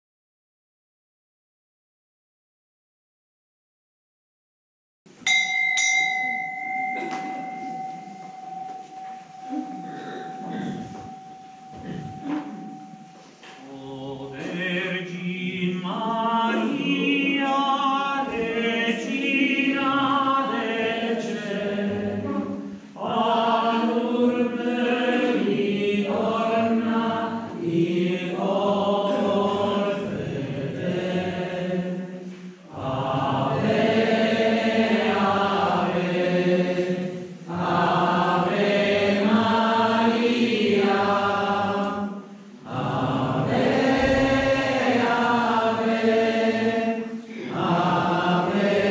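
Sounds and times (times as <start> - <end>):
hymn singing: 5.3 - 48.9.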